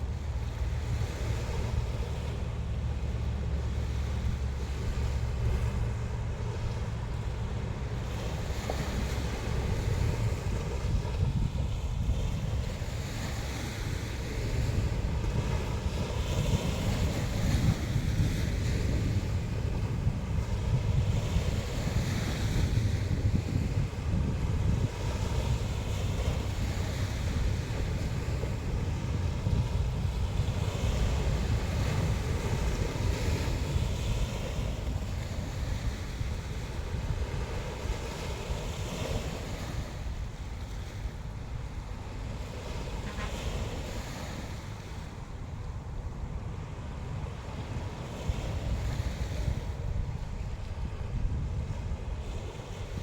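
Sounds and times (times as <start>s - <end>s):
sea waves washing onto shore: 0.0s - 53.0s
wind buffeting microphone: 0.0s - 53.0s.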